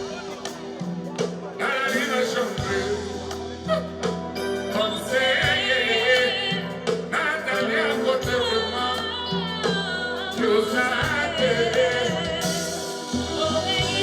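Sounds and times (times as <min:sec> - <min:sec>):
band playing rumba: 0:00.0 - 0:14.0
person singing: 0:01.3 - 0:14.0.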